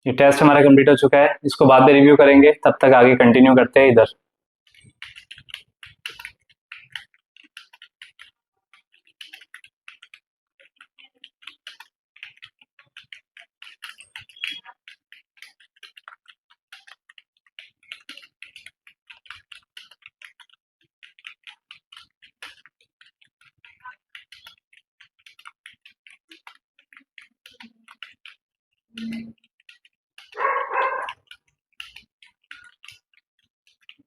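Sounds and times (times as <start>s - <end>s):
fast keyboard typing: 4.7s - 28.4s, 29.0s - 34.0s.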